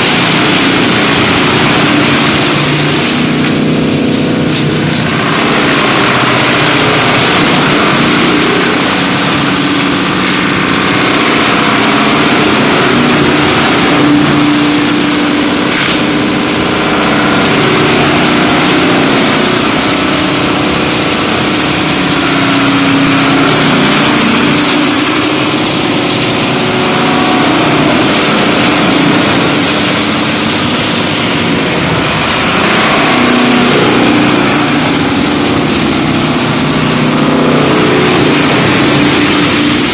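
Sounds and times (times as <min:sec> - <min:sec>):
wood chipper drone: 0:00.0 - 0:39.9
wood grinding: 0:00.0 - 0:39.9.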